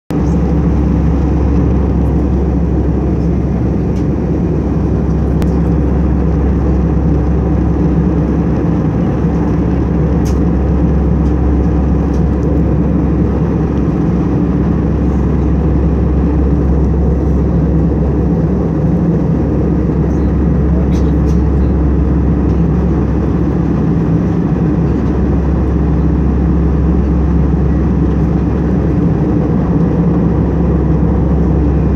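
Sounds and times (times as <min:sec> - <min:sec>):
jet cabin drone: 0:00.1 - 0:31.9.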